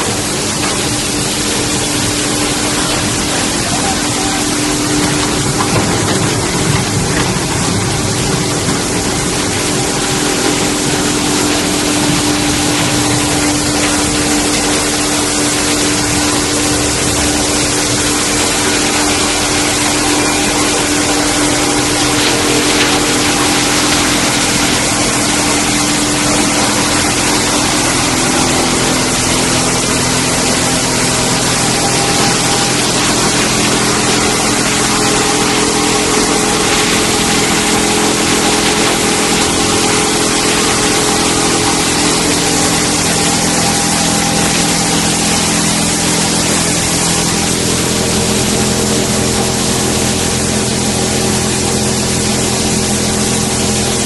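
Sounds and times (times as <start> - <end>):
continuous hiss: 0.0 - 54.0
electric motors and conveyors humming: 0.0 - 54.0.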